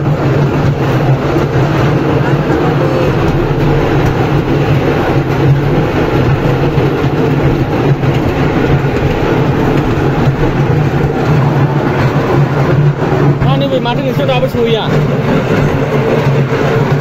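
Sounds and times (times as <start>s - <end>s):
ride train motor hum: 0.0s - 17.0s
wheels rumbling on track: 0.0s - 17.0s.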